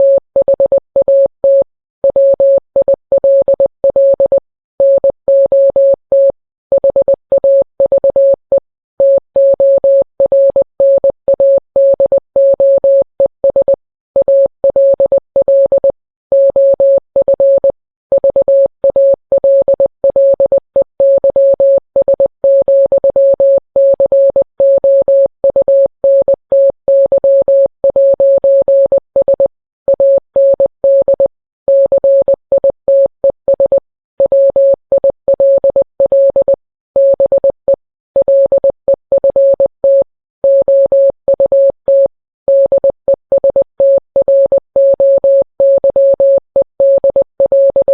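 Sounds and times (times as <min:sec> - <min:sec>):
morse code beeps: 0:00.0 - 0:47.9.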